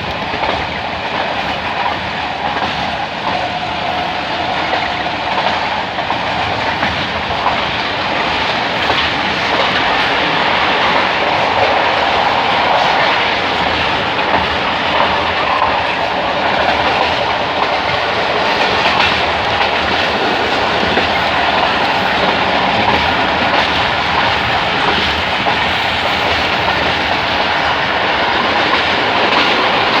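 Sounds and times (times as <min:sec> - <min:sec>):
passenger train rumbling past: 0:00.0 - 0:30.0
wheels clacking over rail joints: 0:00.0 - 0:30.0.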